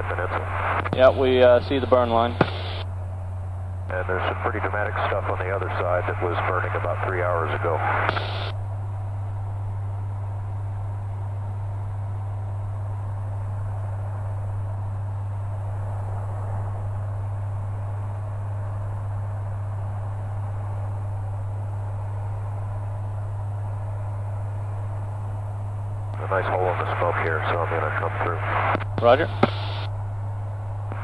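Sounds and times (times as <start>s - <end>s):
light aircraft engine drone: 0.0s - 31.0s.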